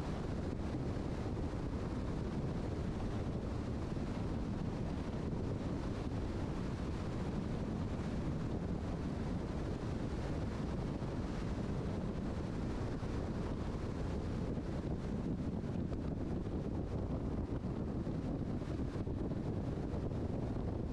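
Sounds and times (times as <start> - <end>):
car road and wind noise: 0.0 - 20.9.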